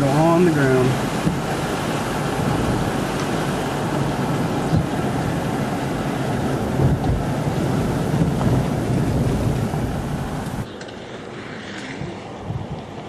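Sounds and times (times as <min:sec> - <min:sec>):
wind buffeting microphone: 0:00.0 - 0:10.7, 0:11.9 - 0:13.0.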